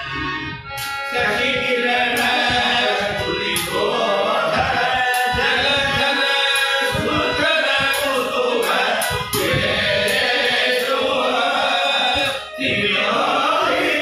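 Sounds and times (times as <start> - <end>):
group of voices singing: 0.0 - 14.0
harmonium chords: 0.0 - 14.0
sharp percussive strikes: 0.7 - 12.7.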